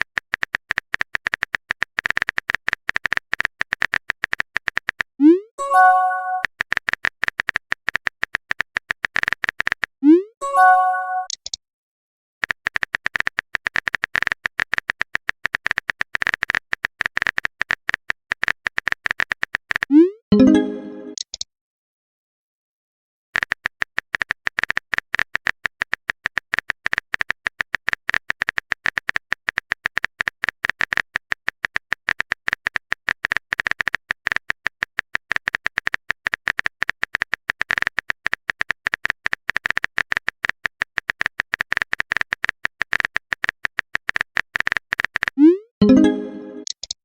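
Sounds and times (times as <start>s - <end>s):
rapid typing clicks: 0.0s - 5.1s, 6.3s - 10.0s, 12.4s - 19.9s, 23.4s - 47.0s.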